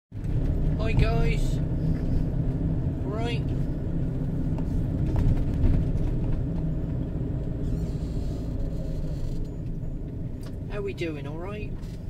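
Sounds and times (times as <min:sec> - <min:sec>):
van engine and road hum: 0:00.1 - 0:12.0.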